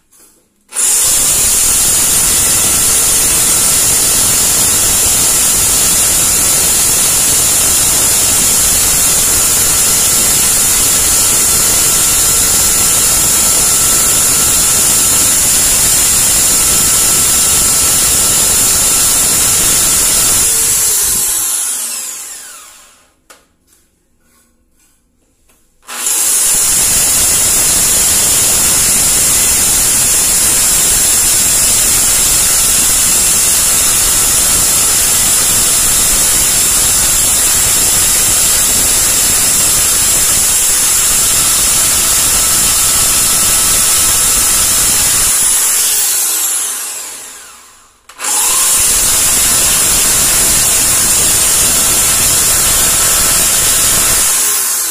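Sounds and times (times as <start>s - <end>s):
electric drill boring into tile: 0.7s - 23.2s, 25.8s - 54.9s.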